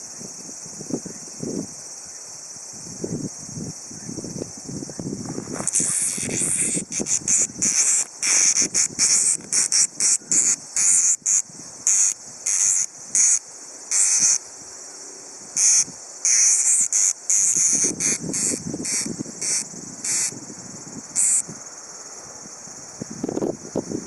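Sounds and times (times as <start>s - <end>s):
cicada buzzing in bursts: 0.0s - 24.0s.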